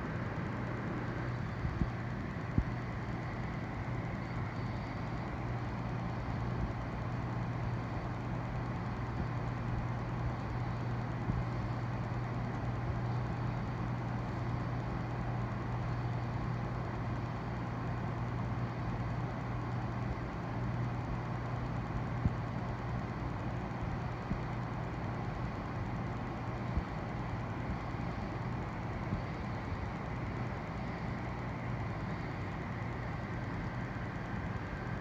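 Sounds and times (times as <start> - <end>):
aquarium pump humming: 0.0 - 35.0.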